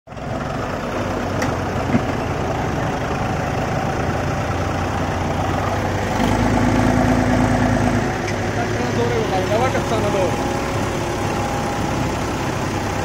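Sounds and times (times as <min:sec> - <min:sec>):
diesel tractor engines under load: 0:00.1 - 0:13.0.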